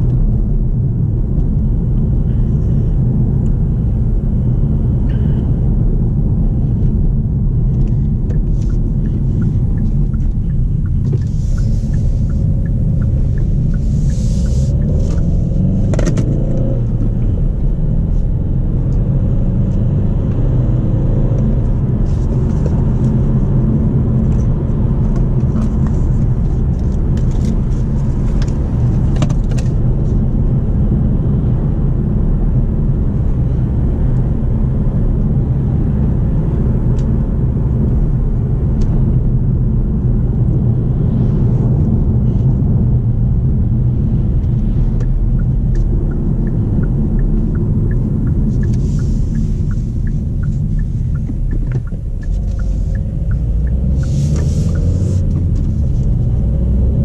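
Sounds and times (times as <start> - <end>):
diesel engine rumble: 0.0 - 57.0
road noise: 0.0 - 57.0.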